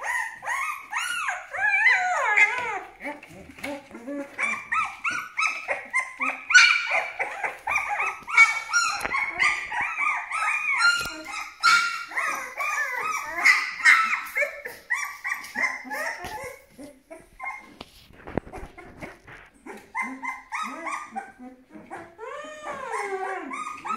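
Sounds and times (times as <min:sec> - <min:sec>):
puppy yelps: 0:00.0 - 0:17.8, 0:18.5 - 0:23.9
puppies whining and crying: 0:00.0 - 0:23.9.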